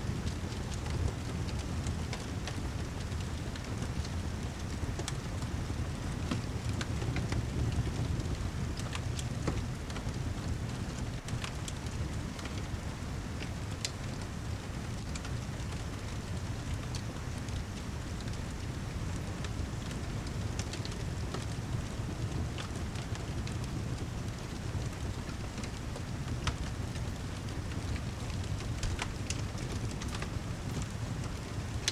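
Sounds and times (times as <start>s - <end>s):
wood fire crackling: 0.1s - 31.9s.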